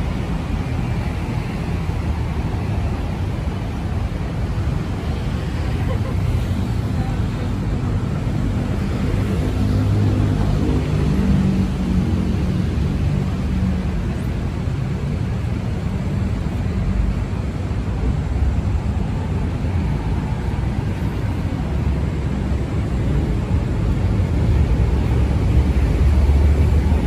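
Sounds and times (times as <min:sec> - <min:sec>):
vehicle road noise rumble: 0:00.0 - 0:27.0.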